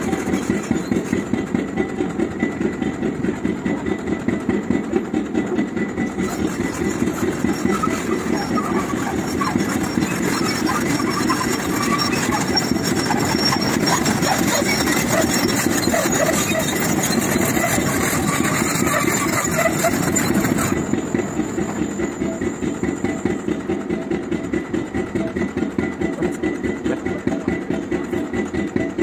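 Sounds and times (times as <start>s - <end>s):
pile-driving rig machinery: 0.0s - 29.0s.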